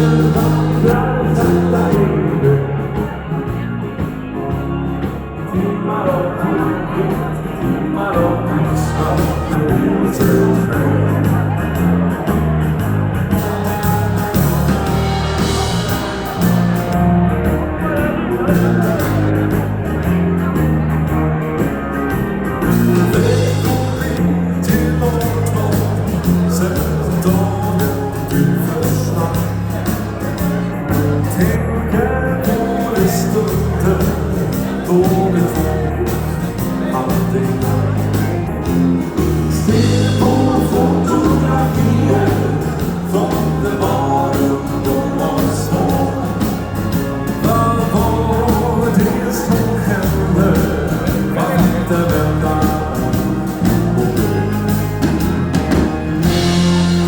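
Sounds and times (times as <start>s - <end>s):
dance band playing slow song: 0.0s - 57.0s
steady bass line: 0.0s - 57.0s.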